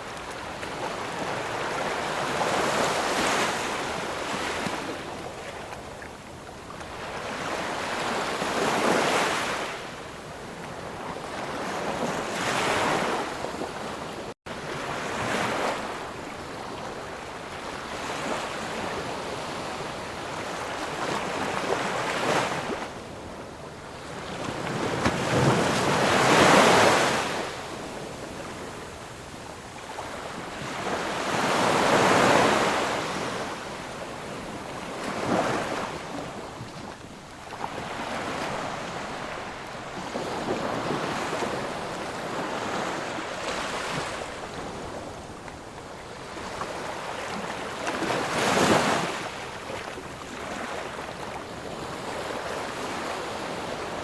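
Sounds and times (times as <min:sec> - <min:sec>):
waves breaking and washing ashore: 0:00.0 - 0:54.0.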